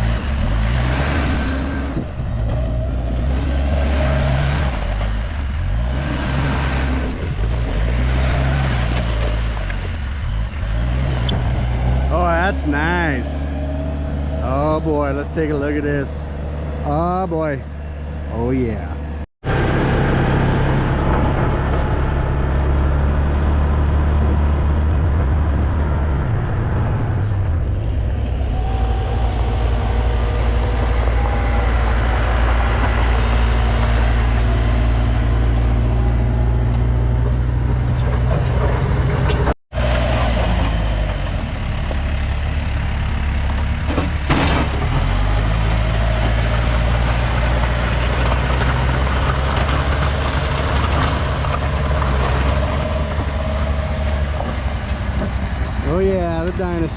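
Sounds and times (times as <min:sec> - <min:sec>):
backhoe diesel engine: 0:00.0 - 0:56.9.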